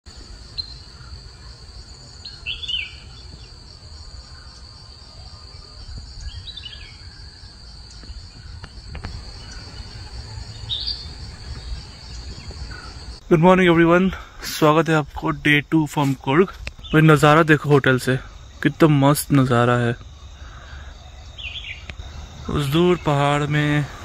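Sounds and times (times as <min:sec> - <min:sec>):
bird chirping: 0:00.1 - 0:13.6, 0:16.0 - 0:24.0
insects trilling: 0:00.1 - 0:24.0.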